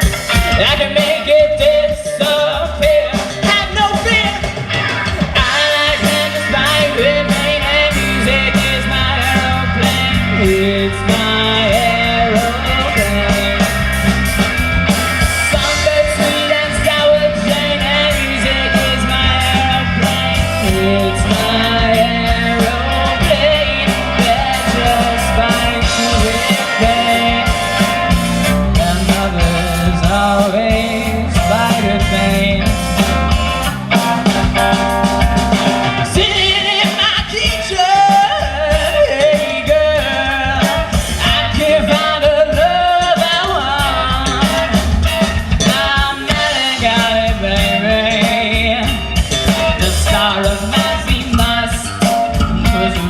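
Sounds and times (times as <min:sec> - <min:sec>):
person singing: 0:00.0 - 0:14.2, 0:15.4 - 0:34.8, 0:35.5 - 0:53.0
rock band playing: 0:00.0 - 0:53.0.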